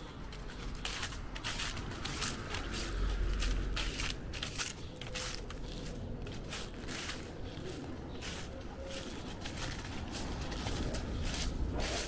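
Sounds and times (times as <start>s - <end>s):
footsteps crunching on path: 0.0s - 12.0s.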